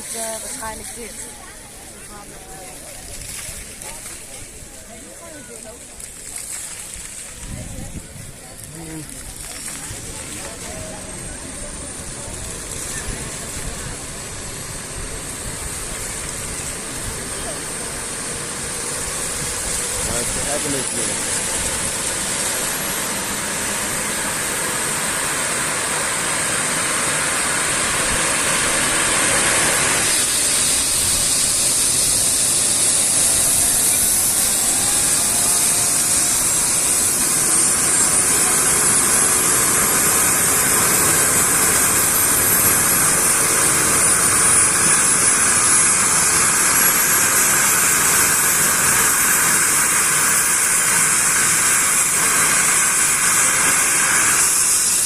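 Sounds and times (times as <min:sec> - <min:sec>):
helicopter turbine and rotor: 0:00.0 - 0:03.2, 0:07.1 - 0:55.0
high turbine whine: 0:00.0 - 0:55.0.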